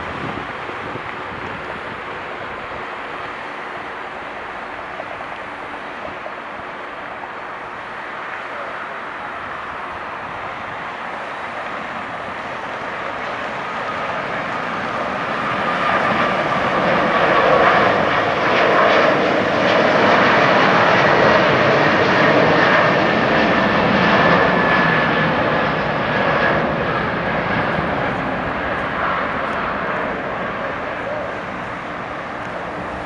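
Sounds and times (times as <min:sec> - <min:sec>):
jet engines roaring at takeoff: 0:00.0 - 0:33.0.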